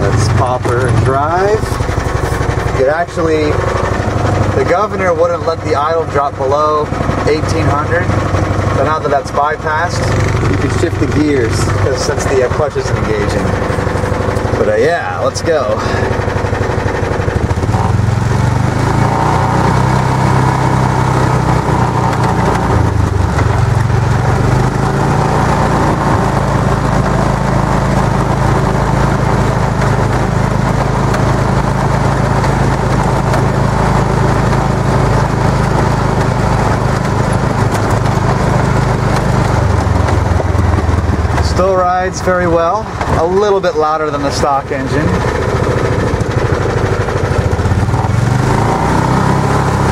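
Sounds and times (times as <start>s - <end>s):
golf cart engine running: 0.0s - 49.9s.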